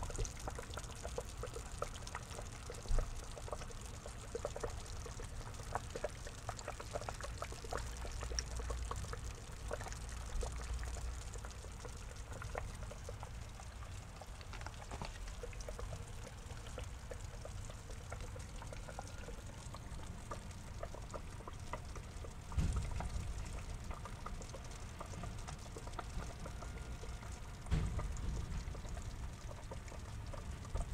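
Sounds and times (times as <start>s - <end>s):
water trickling into a pond: 0.0s - 30.9s.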